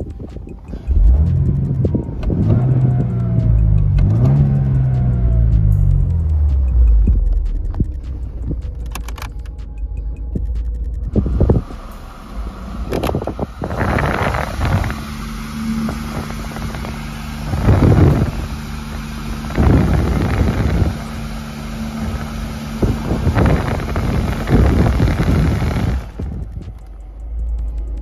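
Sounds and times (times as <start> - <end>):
low hum inside a car: 0.0 - 28.0.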